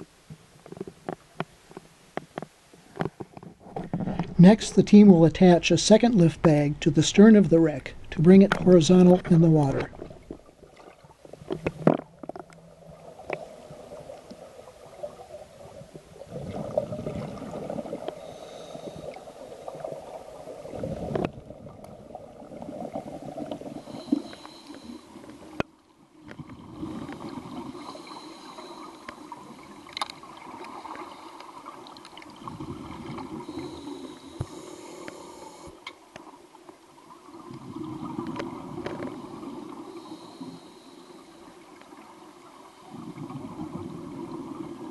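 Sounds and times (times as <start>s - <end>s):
underwater bubbles gurgling: 7.9s - 44.9s.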